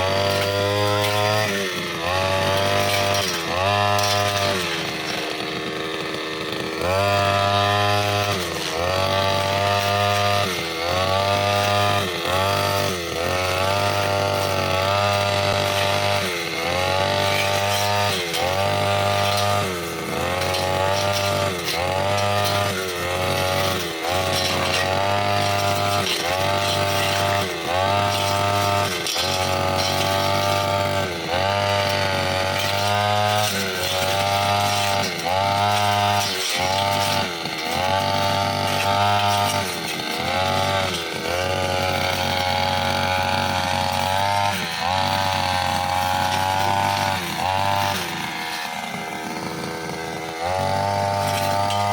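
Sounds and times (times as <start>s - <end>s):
brushcutter cutting grass: 0.0s - 51.9s.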